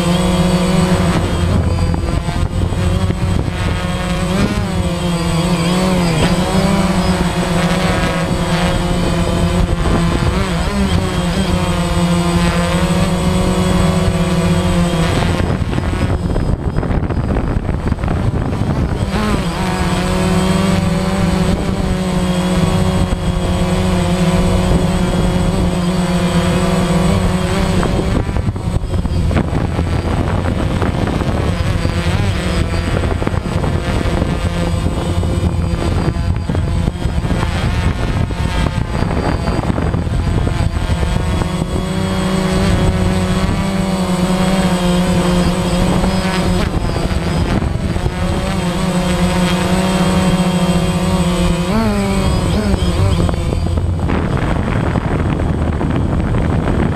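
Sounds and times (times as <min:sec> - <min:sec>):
drone propellers buzzing: 0:00.0 - 0:56.9.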